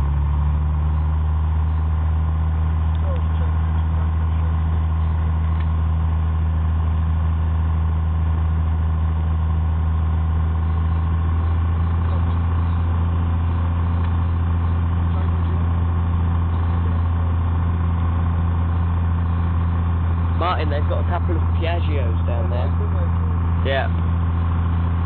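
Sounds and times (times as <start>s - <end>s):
aircraft piston engine droning: 0.0s - 25.0s.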